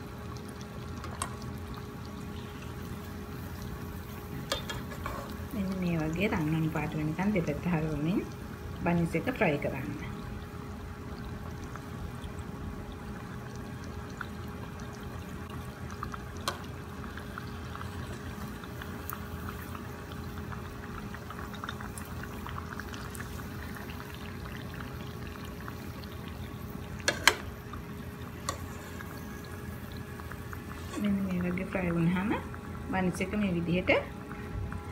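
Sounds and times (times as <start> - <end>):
oil sizzling and bubbling in pan: 0.0 - 34.9.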